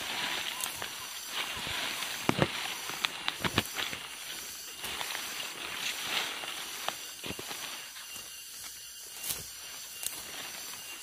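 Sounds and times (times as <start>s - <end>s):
grass rustling underfoot: 0.0s - 11.0s
stalks crackling: 0.0s - 11.0s.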